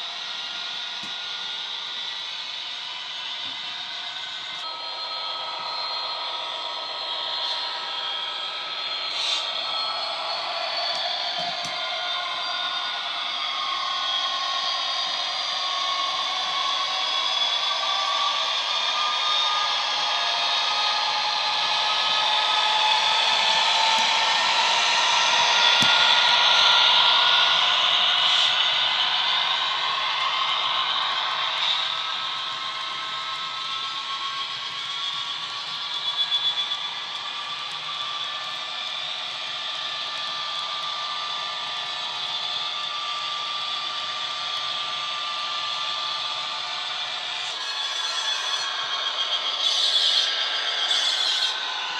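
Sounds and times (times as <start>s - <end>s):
model train whirring whine: 0.0s - 51.9s.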